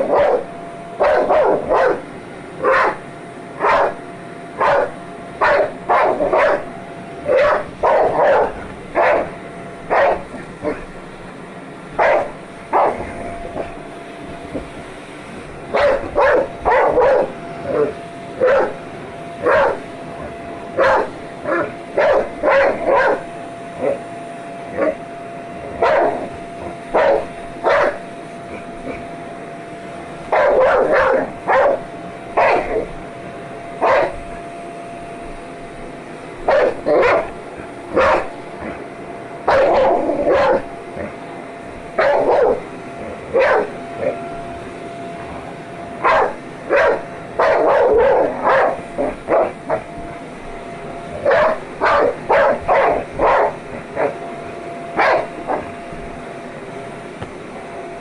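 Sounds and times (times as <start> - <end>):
dog barking: 0.0 - 11.0, 11.9 - 14.8, 15.4 - 29.2, 30.2 - 41.2, 41.8 - 56.1
vacuum cleaner motor hum: 0.0 - 58.0.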